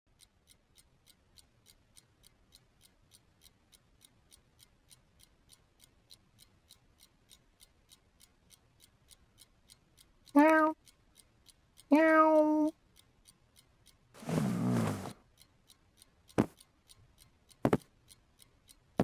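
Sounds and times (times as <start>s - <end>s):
faint even ticking: 0.1s - 18.8s.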